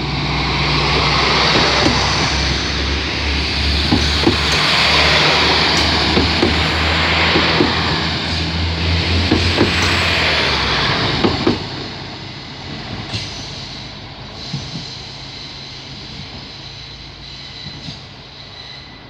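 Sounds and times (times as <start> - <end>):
diesel train rumble: 0.0 - 19.0.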